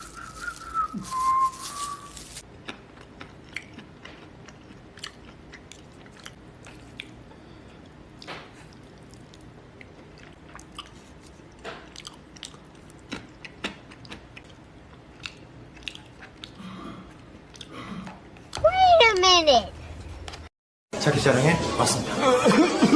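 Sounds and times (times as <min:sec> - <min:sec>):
soft chewing clicks and crunches: 0:00.0 - 0:18.6.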